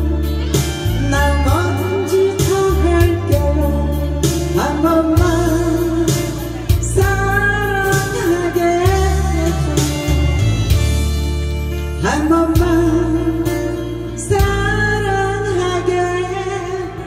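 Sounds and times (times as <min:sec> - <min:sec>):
woman singing into a microphone: 0:00.0 - 0:10.8, 0:11.8 - 0:17.0
acoustic guitar: 0:00.0 - 0:17.0
low bass notes: 0:00.0 - 0:17.0.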